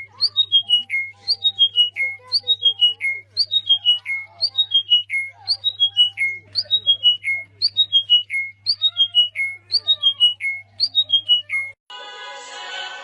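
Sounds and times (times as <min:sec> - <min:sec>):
bird whistling phrase: 0:00.0 - 0:11.8.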